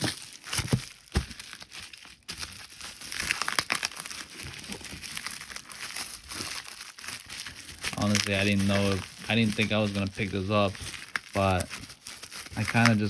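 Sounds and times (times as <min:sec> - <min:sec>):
packaging rustling and crackling: 0:00.0 - 0:13.0.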